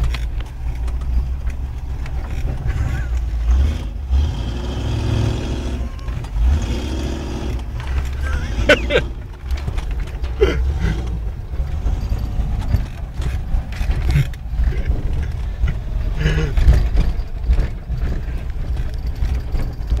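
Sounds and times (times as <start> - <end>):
vehicle knocks and rattles: 0.0 - 20.0
vehicle rumbling over bumpy ground: 0.0 - 20.0.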